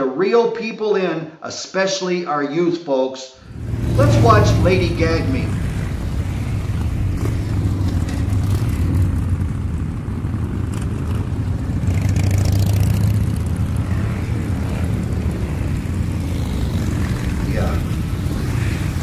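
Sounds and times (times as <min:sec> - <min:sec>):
motorcycle engines cruising: 0:03.4 - 0:19.0.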